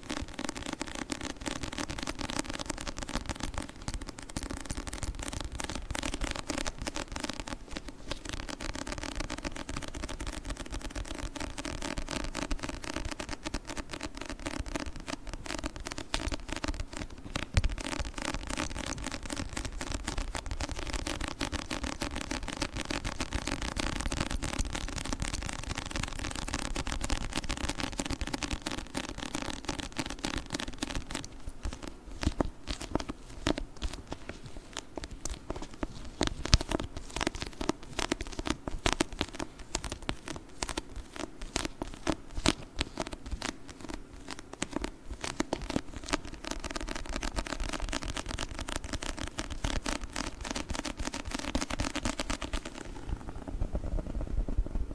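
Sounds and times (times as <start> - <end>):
sticky crackling and peeling: 0.2 - 53.2.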